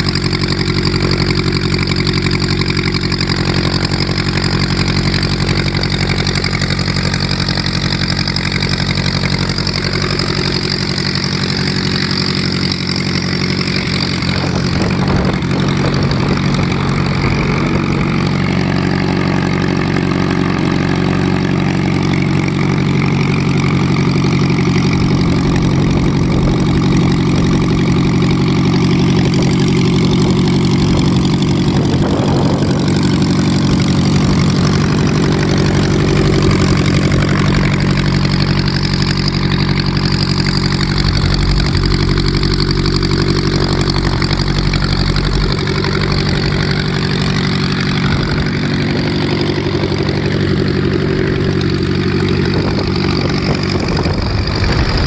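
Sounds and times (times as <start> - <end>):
aircraft engine idling: 0.0 - 55.0
propeller turning: 0.0 - 55.0.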